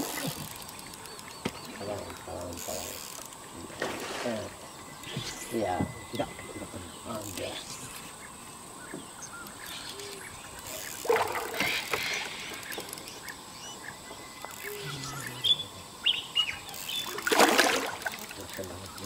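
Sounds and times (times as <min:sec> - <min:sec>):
birds chirping: 0:00.0 - 0:19.0
open-air background noise: 0:00.0 - 0:19.0.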